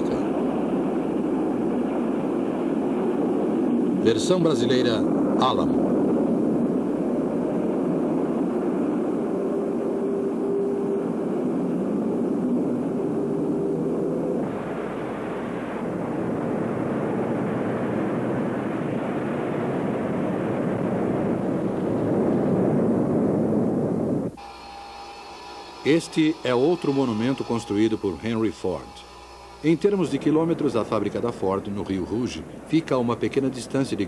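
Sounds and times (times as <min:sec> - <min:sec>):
furnace roaring: 0:00.0 - 0:33.9
faint hum: 0:00.0 - 0:34.0.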